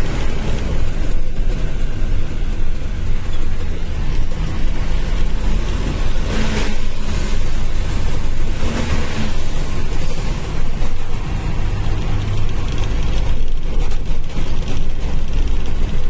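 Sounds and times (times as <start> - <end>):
truck engine rumble: 0.0 - 16.0
tyres on wet road: 0.0 - 16.0.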